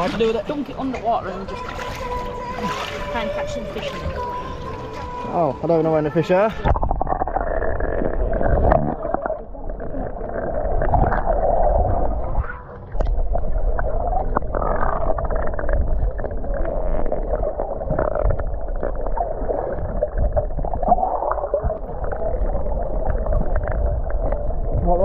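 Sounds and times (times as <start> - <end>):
muffled underwater gurgling: 0.0 - 25.0.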